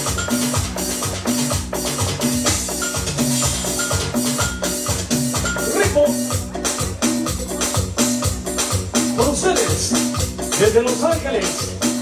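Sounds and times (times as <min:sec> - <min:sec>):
cumbia beat on electronic keyboard: 0:00.0 - 0:12.0.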